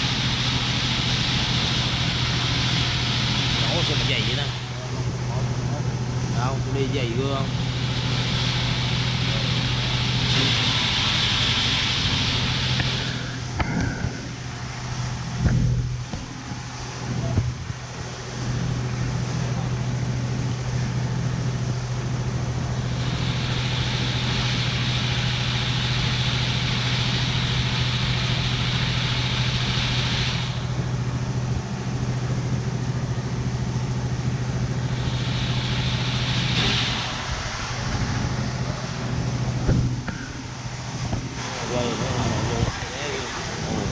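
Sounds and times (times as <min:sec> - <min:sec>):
engine humming: 0:00.0 - 0:43.9
high hiss: 0:00.0 - 0:43.9.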